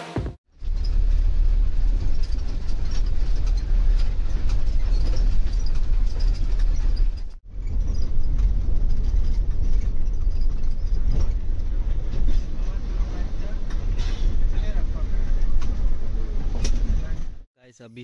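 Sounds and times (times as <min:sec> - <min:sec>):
vehicle cabin rumble: 0:00.0 - 0:17.4.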